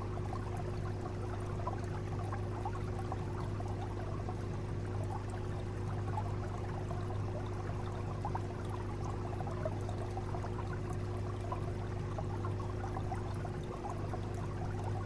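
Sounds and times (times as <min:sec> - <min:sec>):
low pump hum: 0:00.0 - 0:15.0
water trickling and bubbling: 0:00.0 - 0:15.0.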